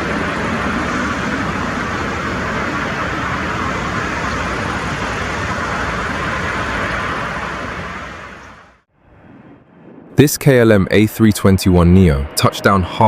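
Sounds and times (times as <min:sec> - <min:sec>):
airliner landing rushing noise: 0:00.0 - 0:13.0.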